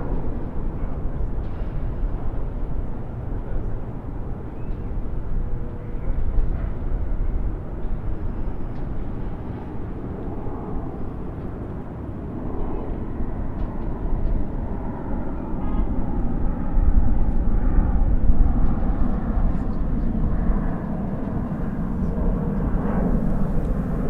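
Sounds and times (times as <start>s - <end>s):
distant highway traffic: 0.0s - 24.0s.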